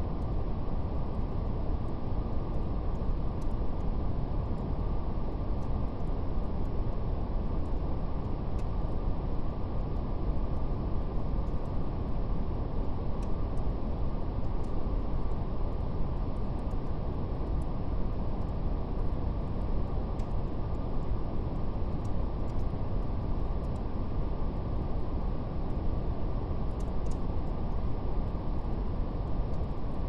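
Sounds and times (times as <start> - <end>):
brown noise hiss: 0.0 - 30.0.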